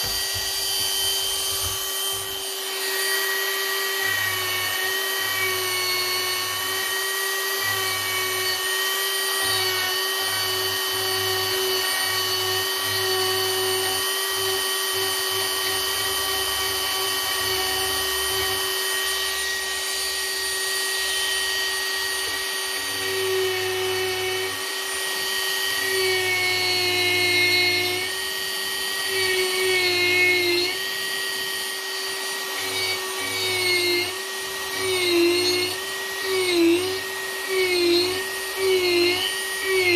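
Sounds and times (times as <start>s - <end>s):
rotary tool whining carving wood: 0.0s - 39.9s.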